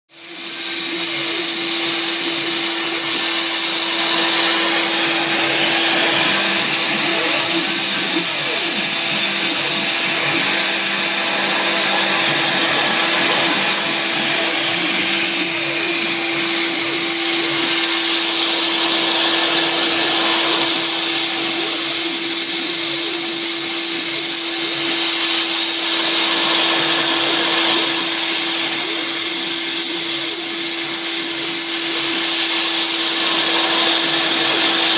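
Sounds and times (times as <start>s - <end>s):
cutter milling wood hiss: 0.1s - 34.9s
mill spindle whine: 0.1s - 34.9s.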